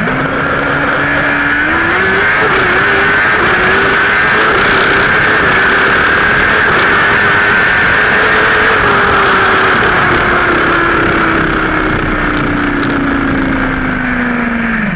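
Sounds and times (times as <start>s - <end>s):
loud wind rush: 0.0s - 14.9s
motorcycle engine slowing down: 0.0s - 14.9s.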